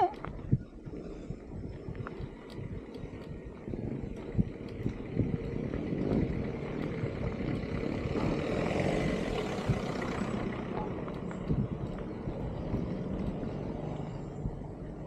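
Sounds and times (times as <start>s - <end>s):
motor vehicle passing by: 2.0s - 15.0s.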